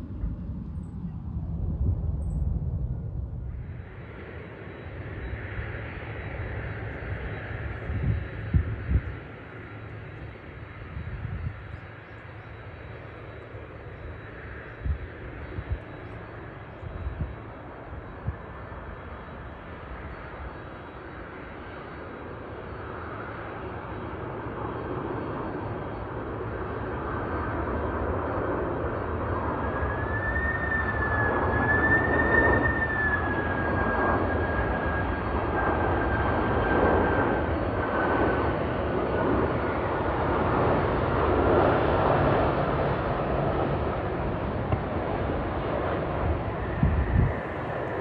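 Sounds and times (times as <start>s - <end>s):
high engine whine: 0.0s - 48.0s
jet airliner engines: 0.0s - 48.0s.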